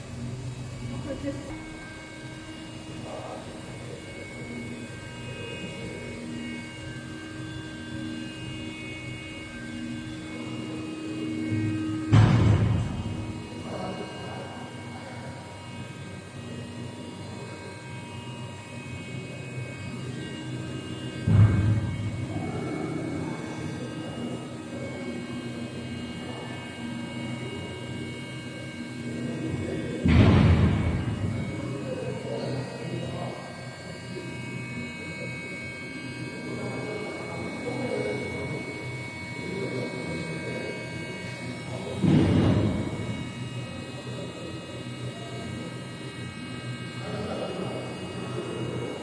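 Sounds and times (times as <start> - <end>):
high whining tones: 0.0 - 49.0
machine hum: 0.0 - 49.0.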